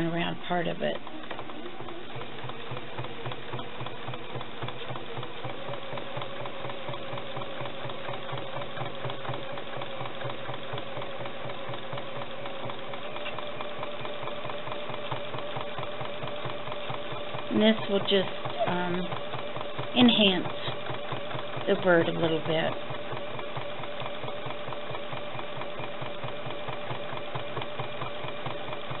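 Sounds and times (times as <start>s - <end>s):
sewing machine running: 0.0s - 29.0s.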